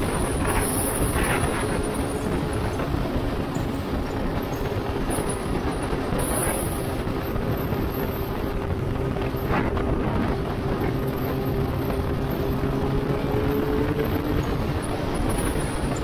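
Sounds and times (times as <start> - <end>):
motorcycle engine cruising: 0.0 - 16.0
wind rush on microphone: 0.0 - 16.0.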